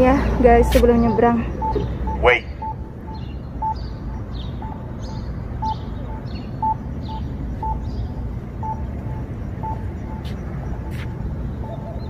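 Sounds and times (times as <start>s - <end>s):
low traffic hum: 0.0s - 12.0s
pedestrian signal beeps: 0.0s - 12.0s.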